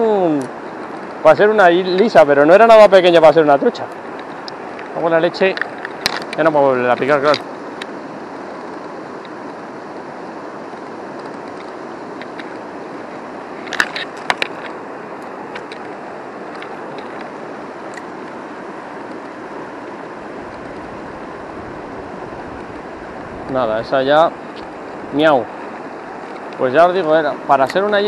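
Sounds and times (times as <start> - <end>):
river water over stones: 0.0 - 28.0.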